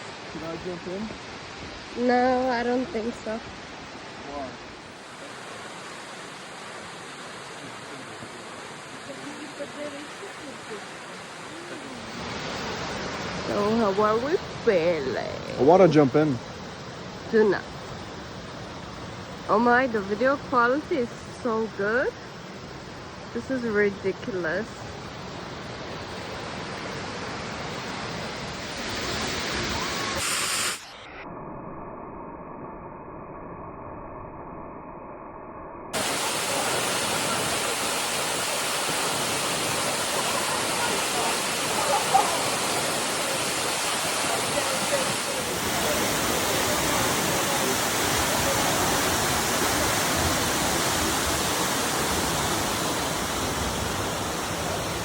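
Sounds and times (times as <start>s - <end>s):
waterfall roaring: 0.0s - 30.9s, 36.0s - 55.0s.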